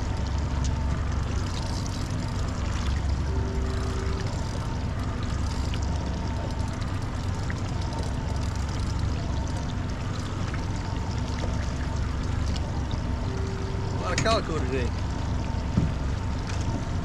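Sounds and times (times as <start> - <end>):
faint hum: 0.0 - 17.0
water noise: 0.0 - 17.0
wind: 0.0 - 17.0.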